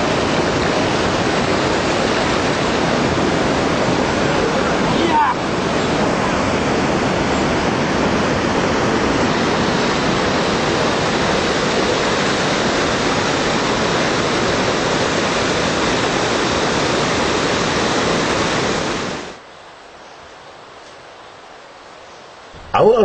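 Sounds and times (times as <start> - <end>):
water rushing over rocks: 0.0 - 19.4.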